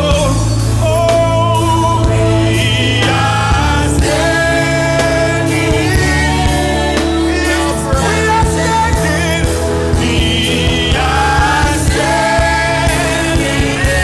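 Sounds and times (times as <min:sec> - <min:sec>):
gospel band playing: 0:00.0 - 0:14.0
voices singing: 0:00.0 - 0:14.0.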